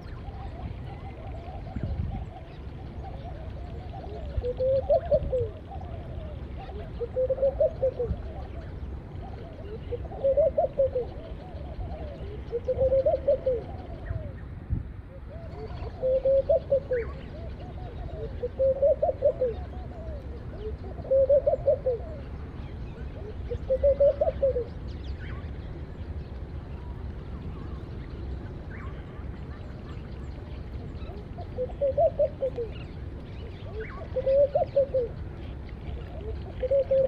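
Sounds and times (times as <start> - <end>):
dove cooing: 0.0 - 14.4, 15.1 - 24.8, 30.8 - 37.0.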